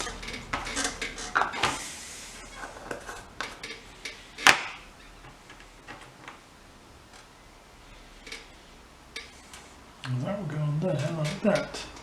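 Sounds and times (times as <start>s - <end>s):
small tools clicking and tapping: 0.0s - 6.5s, 7.1s - 12.0s.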